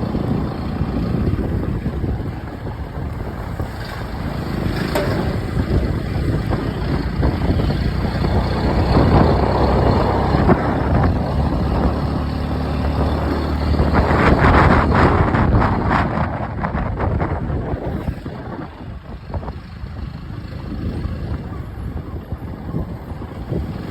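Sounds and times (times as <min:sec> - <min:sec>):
motorcycle engine drone: 0:00.0 - 0:23.9
road noise: 0:00.0 - 0:23.9.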